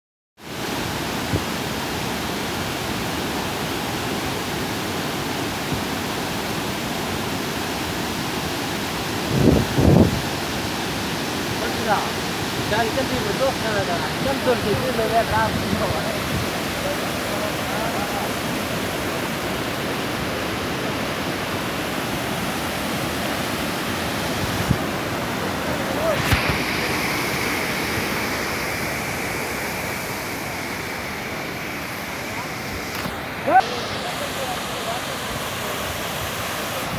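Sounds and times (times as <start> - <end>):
rushing roar of falling water: 0.4 - 36.9.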